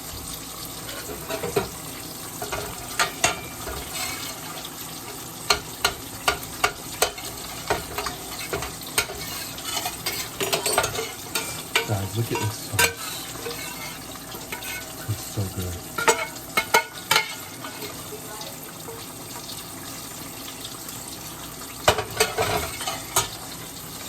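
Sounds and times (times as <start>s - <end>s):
chicken frying with pops: 0.0s - 24.0s.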